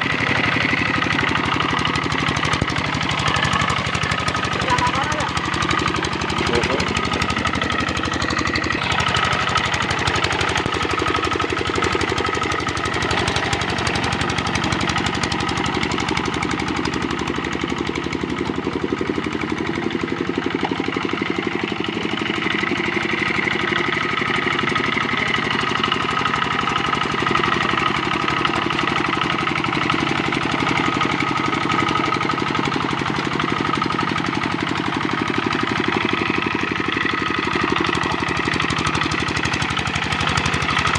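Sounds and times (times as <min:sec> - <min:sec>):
diesel engine knocking: 0:00.0 - 0:40.9.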